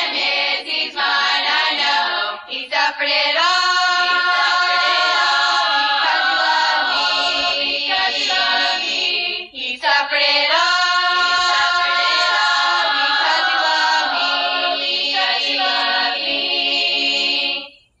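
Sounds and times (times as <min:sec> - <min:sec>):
girls choir singing a hymn: 0:00.0 - 0:17.8.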